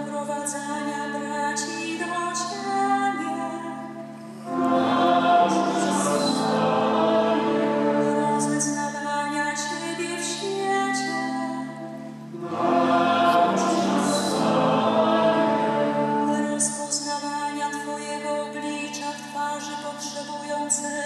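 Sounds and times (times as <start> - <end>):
woman singing a litany: 0.0 - 4.8, 7.6 - 14.4, 15.4 - 21.0.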